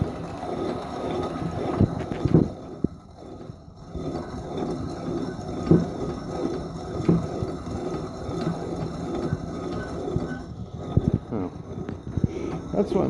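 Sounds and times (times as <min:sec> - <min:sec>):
coffee grinder grinding beans: 0:00.0 - 0:13.0.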